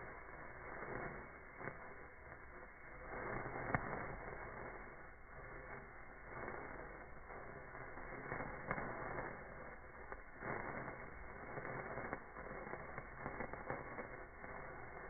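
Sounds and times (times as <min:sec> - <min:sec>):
sparkler fizzing and crackling: 0:00.0 - 0:15.0.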